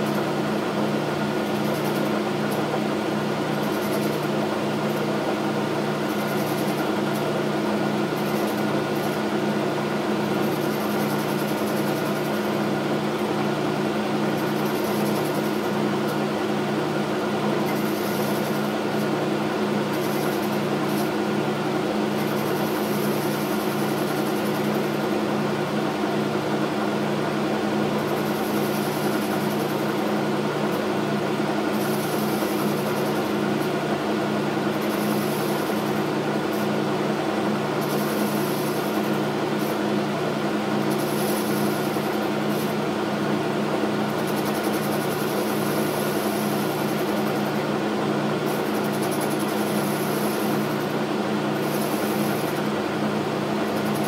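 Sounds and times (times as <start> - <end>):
metal lathe humming: 0.0 - 54.0.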